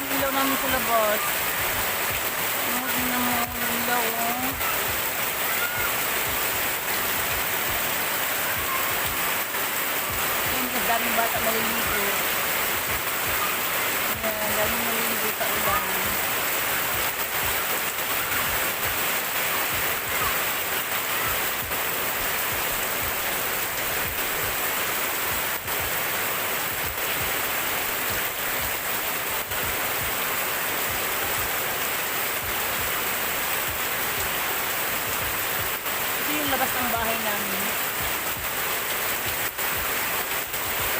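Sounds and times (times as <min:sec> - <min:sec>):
rain pouring: 0:00.0 - 0:40.9.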